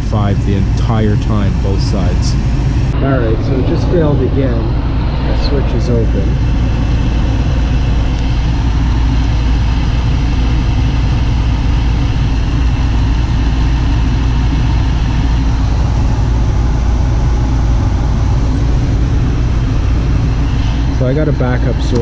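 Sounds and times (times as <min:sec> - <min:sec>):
furnace blower hum and air rush: 0:00.0 - 0:22.0.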